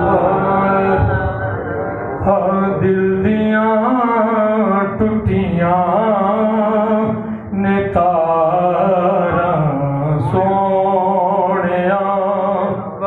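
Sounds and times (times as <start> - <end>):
man singing into a microphone: 0.0 - 1.5, 2.2 - 13.0
steady low drone: 0.0 - 13.0.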